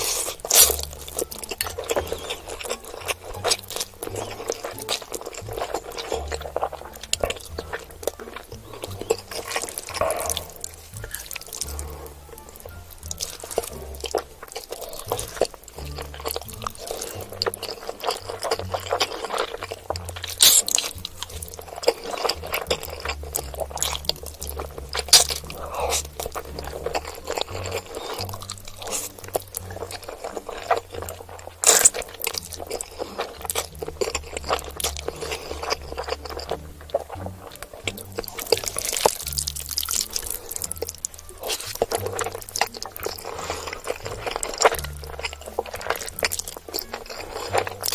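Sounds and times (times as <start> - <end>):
background music: 0.0 - 47.9
chewing: 0.0 - 47.9
mouth clicks: 0.0 - 47.9
slurping noodles: 0.0 - 47.9.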